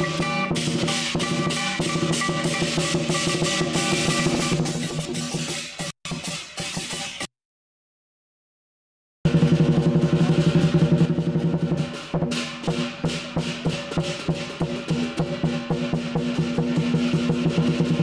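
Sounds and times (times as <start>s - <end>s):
clashing cymbals: 0.0s - 7.3s, 9.3s - 18.0s
drum beaten in rapid rolls: 0.0s - 7.3s, 9.3s - 18.0s.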